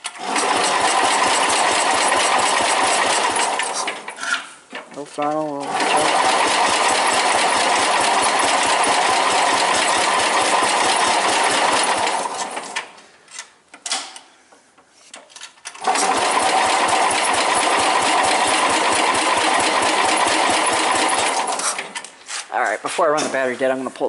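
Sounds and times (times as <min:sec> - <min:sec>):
tractor engine cranking: 0:00.0 - 0:04.5, 0:05.2 - 0:13.5, 0:15.4 - 0:23.7.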